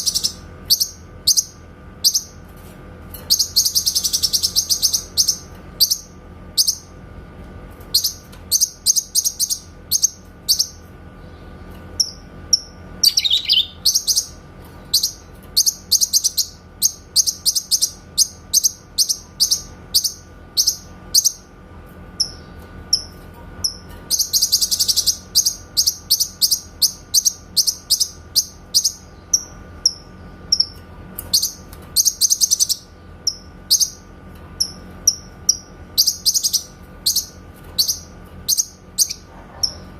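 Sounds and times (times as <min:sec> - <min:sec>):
bird chirping rapidly: 0:00.0 - 0:02.4, 0:03.3 - 0:06.9, 0:08.0 - 0:10.8, 0:12.0 - 0:21.5, 0:22.2 - 0:39.9.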